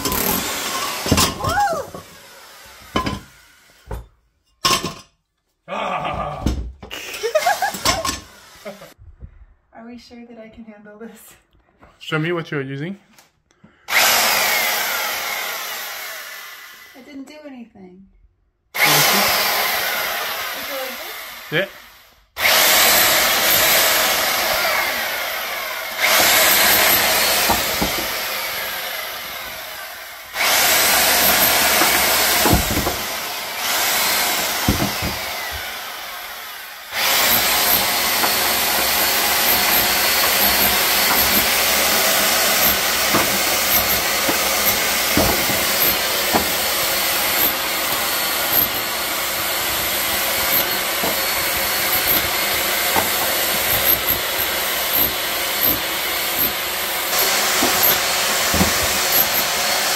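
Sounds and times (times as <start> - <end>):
loud power tool running: 0.0 - 4.0, 7.3 - 9.0, 13.8 - 17.1, 18.8 - 59.9.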